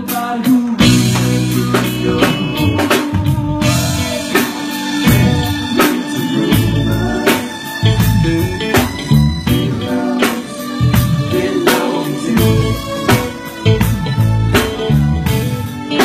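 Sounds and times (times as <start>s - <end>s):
bass line: 0.0s - 16.0s
drum kit beat: 0.0s - 16.0s.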